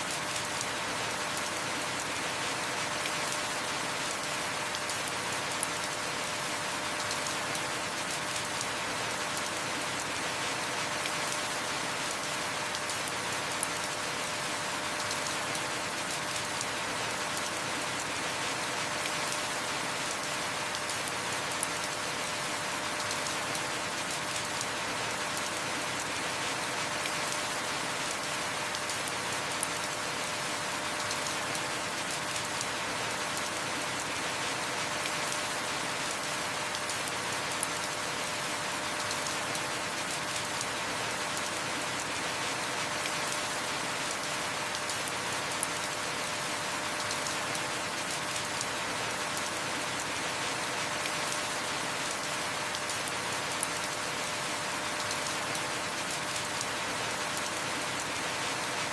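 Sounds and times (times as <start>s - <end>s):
heavy rain falling: 0.1s - 58.9s.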